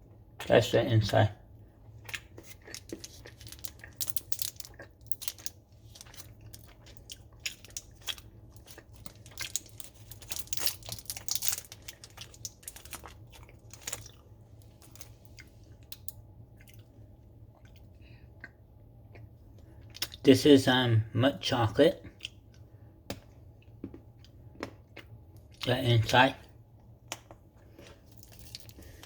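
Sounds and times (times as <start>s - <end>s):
person chewing chocolate: 1.4s - 20.2s, 22.0s - 25.8s, 26.8s - 29.0s.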